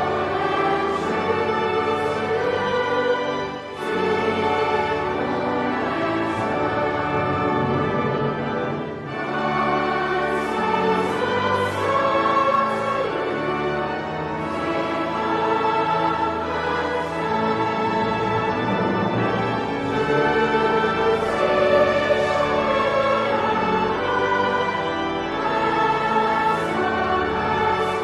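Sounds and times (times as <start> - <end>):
choir singing: 0.0 - 28.0
orchestral accompaniment: 0.0 - 28.0.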